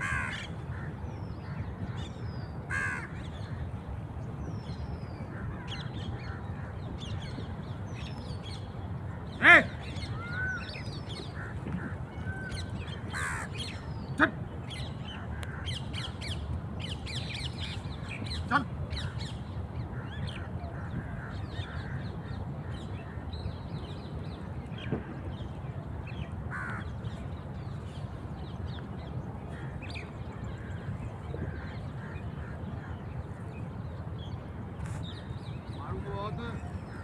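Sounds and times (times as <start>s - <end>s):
birds chirping: 0.0s - 37.0s
harsh bird calls: 4.6s - 37.0s.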